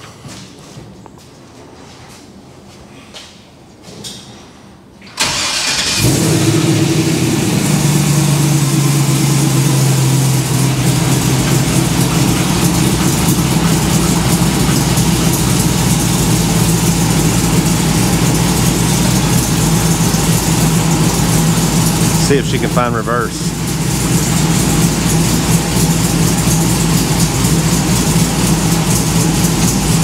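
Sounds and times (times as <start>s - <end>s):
truck engine starting and idling: 5.0s - 30.0s.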